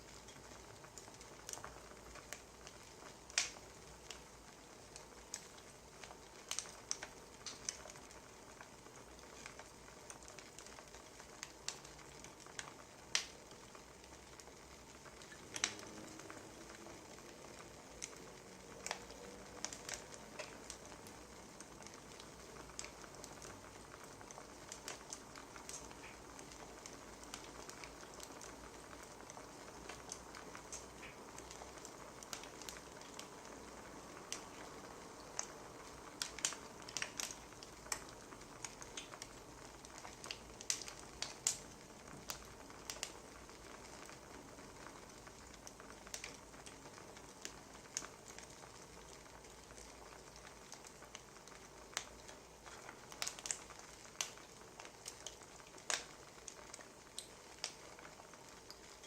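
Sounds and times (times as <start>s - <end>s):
soft steady hiss: 0.0s - 59.0s
wood fire crackling: 0.0s - 59.0s.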